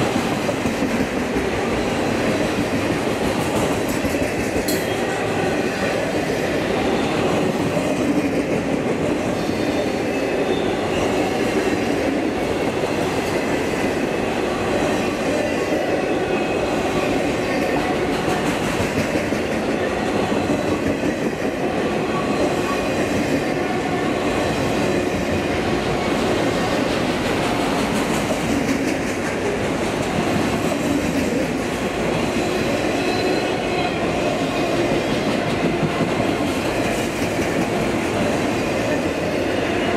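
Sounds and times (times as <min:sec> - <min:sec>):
steel wheels clattering on rail: 0:00.0 - 0:15.9, 0:16.8 - 0:39.9
freight train rolling past: 0:00.0 - 0:39.9.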